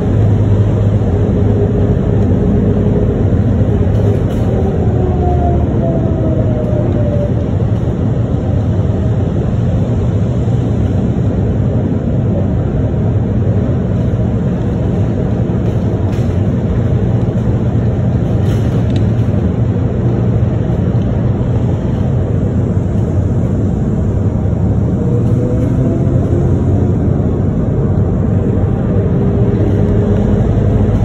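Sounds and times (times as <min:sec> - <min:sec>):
rumble of tyres and drive: 0:00.0 - 0:31.0.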